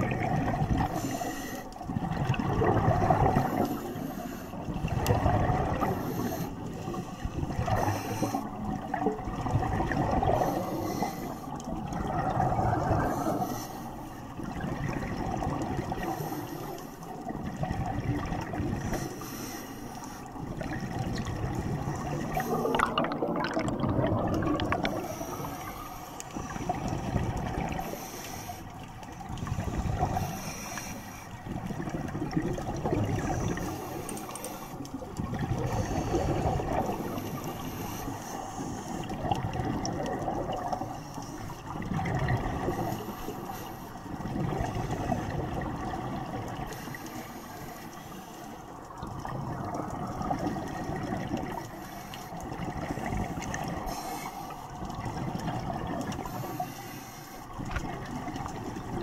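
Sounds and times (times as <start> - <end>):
underwater bubbles gurgling: 0.0 - 59.0.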